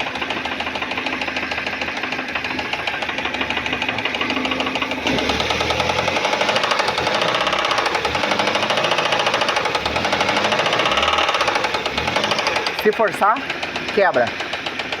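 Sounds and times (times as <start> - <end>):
car engine running: 0.0 - 15.0
rapid metallic engine knock: 0.0 - 15.0.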